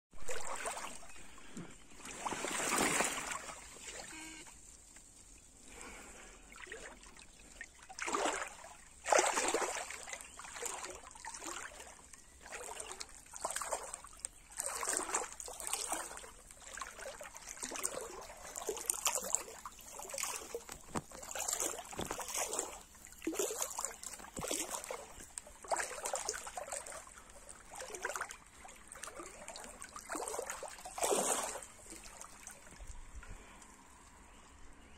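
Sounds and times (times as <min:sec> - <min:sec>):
river water splashing: 0:00.2 - 0:34.7.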